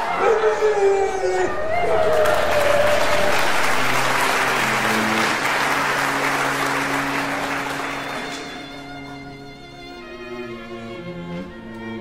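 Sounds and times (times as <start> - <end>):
audience applause: 0.0 - 10.1.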